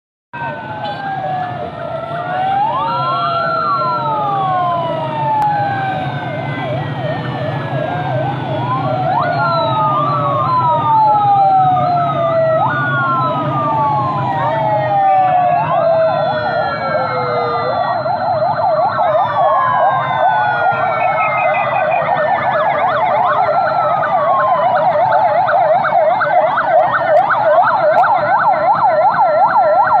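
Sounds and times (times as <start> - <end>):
engine rumble: 0.4 - 30.0
police sirens wailing: 0.4 - 30.0.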